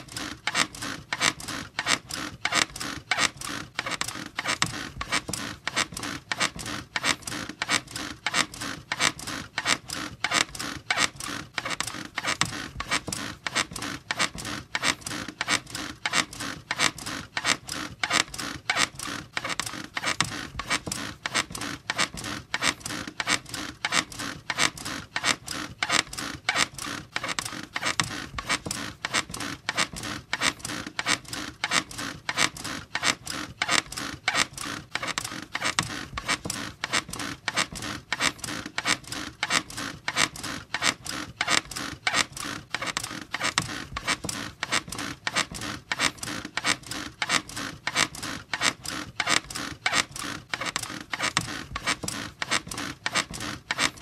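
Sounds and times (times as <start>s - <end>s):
bed springs squeaking: 0.0s - 54.0s.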